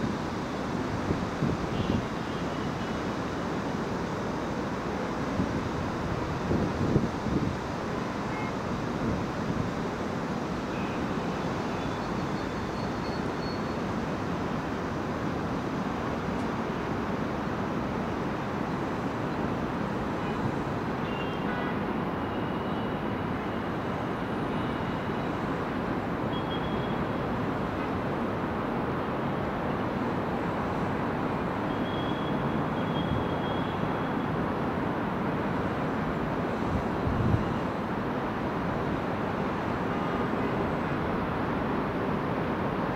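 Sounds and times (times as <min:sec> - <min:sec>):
heavy vehicle engines and traffic: 0:00.0 - 0:42.9.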